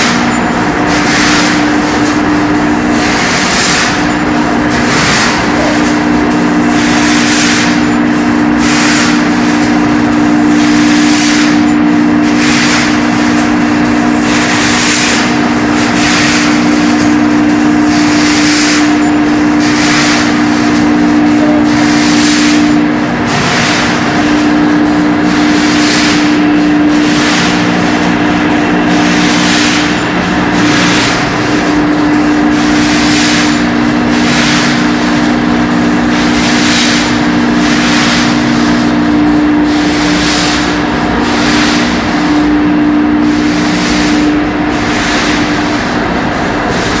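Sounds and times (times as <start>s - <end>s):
machinery humming: 0.0s - 47.0s.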